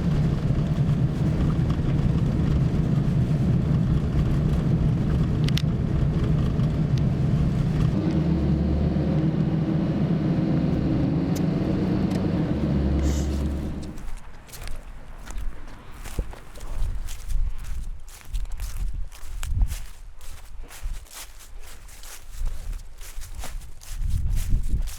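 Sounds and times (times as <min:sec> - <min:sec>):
vehicle engine rumble: 0:00.0 - 0:24.9.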